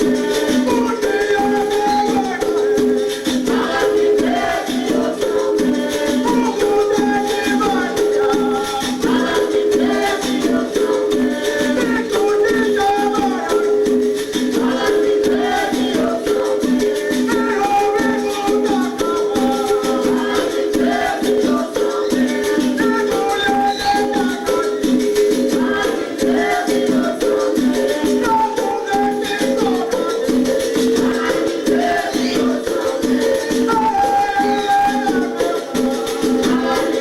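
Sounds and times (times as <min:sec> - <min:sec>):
shaken rattle: 0:00.0 - 0:37.0.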